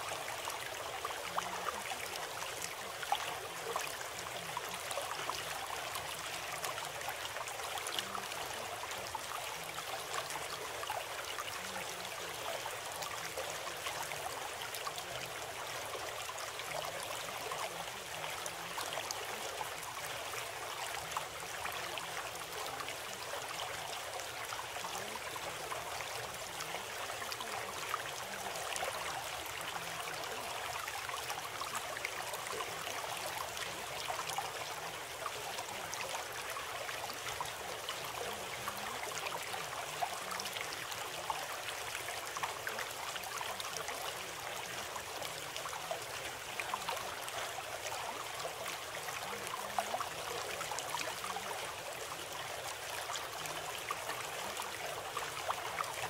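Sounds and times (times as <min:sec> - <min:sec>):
flowing water: 0:00.0 - 0:56.0.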